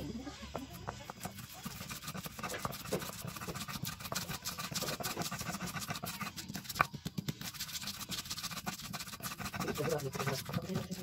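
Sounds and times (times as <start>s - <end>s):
stone on stone scraping: 0.0s - 11.0s.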